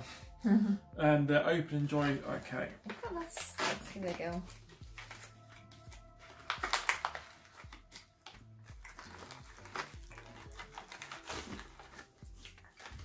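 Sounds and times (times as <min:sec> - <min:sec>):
quiet background music: 0:00.0 - 0:13.0
plastic pouch rustling: 0:01.8 - 0:13.0.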